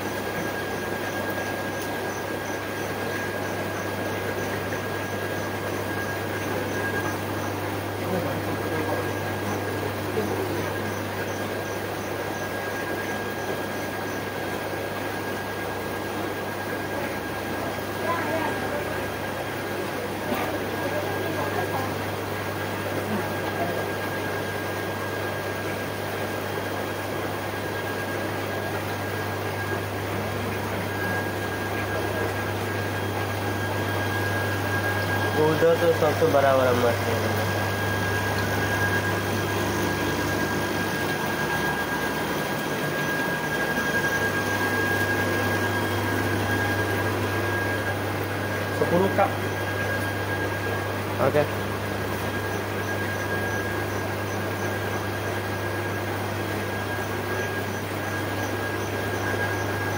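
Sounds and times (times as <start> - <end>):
aquarium equipment hum and hiss: 0.0 - 59.9
faint high whine: 0.0 - 59.9
thin high steady tone: 0.0 - 59.9.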